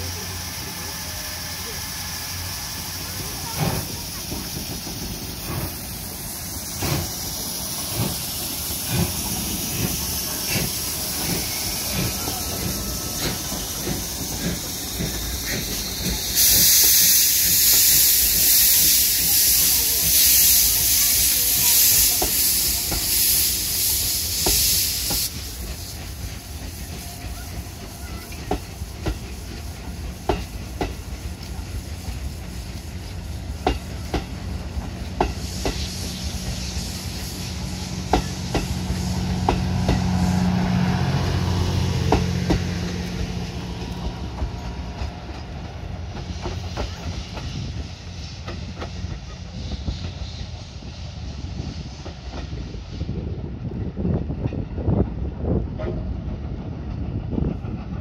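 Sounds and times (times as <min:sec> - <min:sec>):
loud hiss of steam: 0:00.0 - 0:56.2
train wheels clicking over rail joints: 0:02.0 - 0:51.0.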